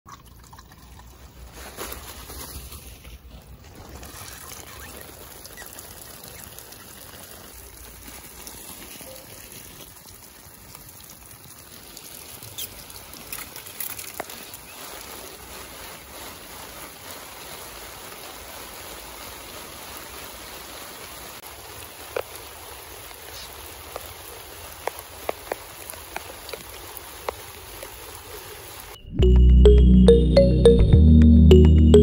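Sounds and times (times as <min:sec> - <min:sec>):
water spraying on plants: 0:01.1 - 0:29.0.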